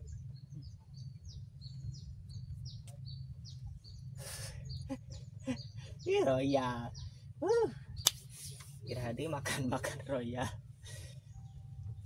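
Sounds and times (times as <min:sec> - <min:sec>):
small bird chirping: 0:00.0 - 0:12.0
steady low hum: 0:00.0 - 0:12.0.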